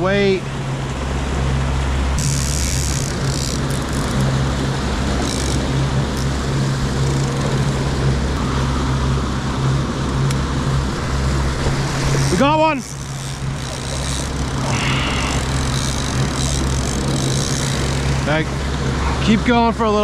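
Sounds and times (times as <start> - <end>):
boat engine running: 0.0 - 20.0
water rushing: 0.0 - 20.0.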